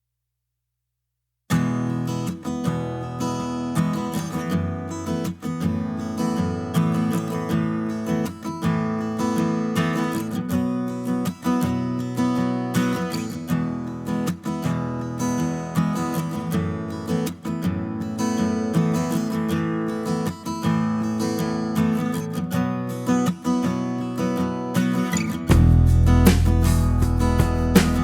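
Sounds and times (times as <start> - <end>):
acoustic guitar music: 1.5 - 28.0.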